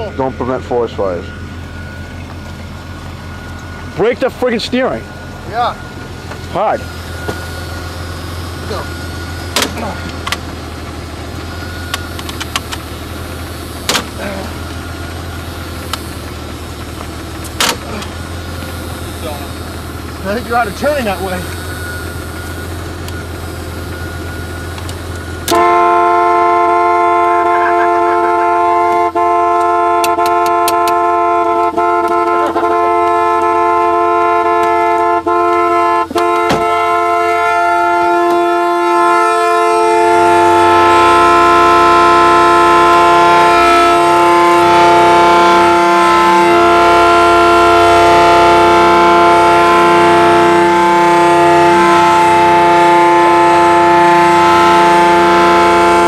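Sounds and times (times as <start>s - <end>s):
car horn blaring: 0.0s - 56.0s
low engine hum: 0.0s - 56.0s.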